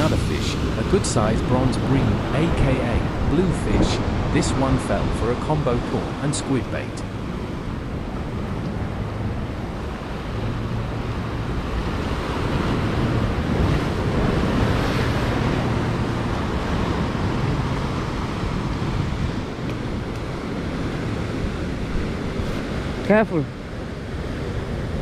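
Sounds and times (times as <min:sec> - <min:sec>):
wind noise on microphone: 0:00.0 - 0:06.2, 0:06.9 - 0:25.0
ocean surf washing ashore: 0:00.0 - 0:25.0.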